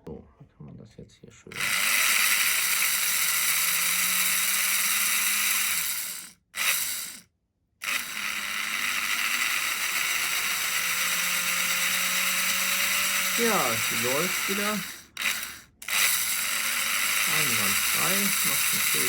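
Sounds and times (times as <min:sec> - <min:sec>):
model locomotive motor whirring: 0:01.6 - 0:07.2, 0:07.8 - 0:19.0.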